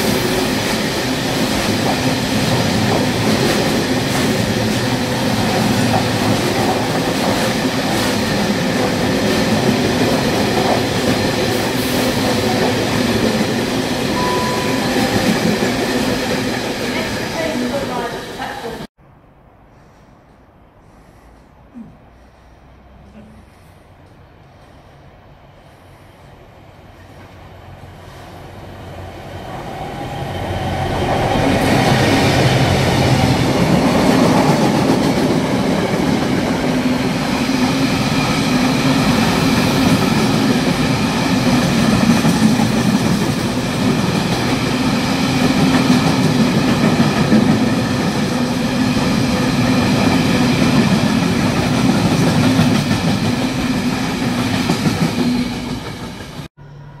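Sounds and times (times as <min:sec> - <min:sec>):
freight train passing: 0:00.0 - 0:18.9, 0:22.4 - 0:57.0.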